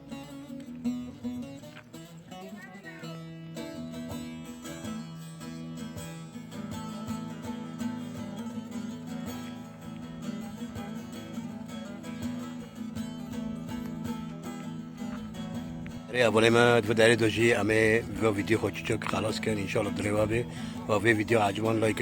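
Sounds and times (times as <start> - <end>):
plucked guitar-like strings: 0.0 - 22.0.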